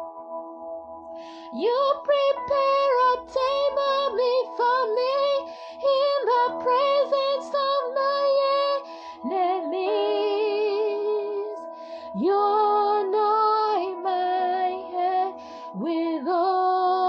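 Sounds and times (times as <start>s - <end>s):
held chords: 0.0s - 17.0s.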